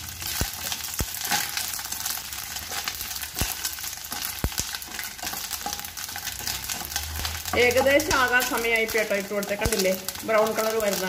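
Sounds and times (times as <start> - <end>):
food sizzling in hot oil: 0.0 - 11.0
spatula stirring in a pan: 0.0 - 11.0.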